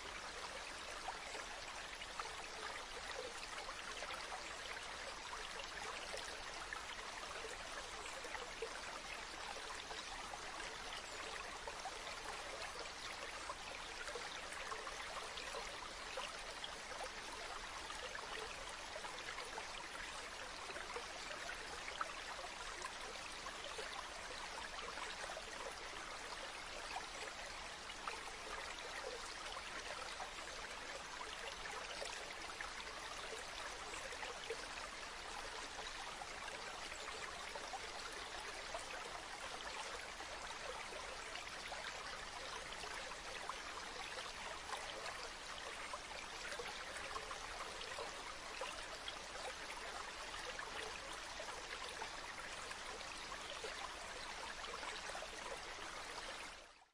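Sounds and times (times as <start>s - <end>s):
stream water trickling: 0.0s - 56.9s.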